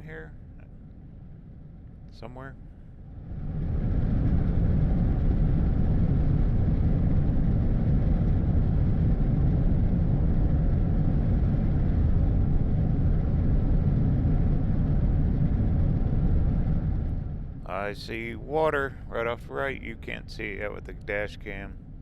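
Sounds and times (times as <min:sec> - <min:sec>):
vehicle engine rumble: 0:02.7 - 0:22.0.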